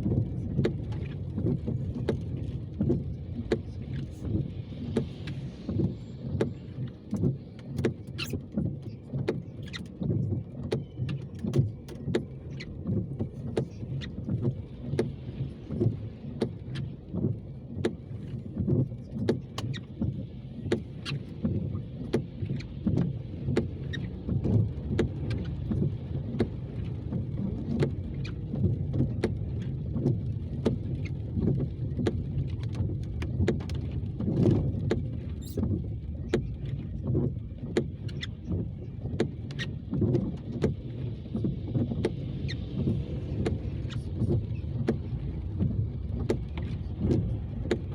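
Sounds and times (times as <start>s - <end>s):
road rumble and tyre hiss: 0.0s - 47.9s.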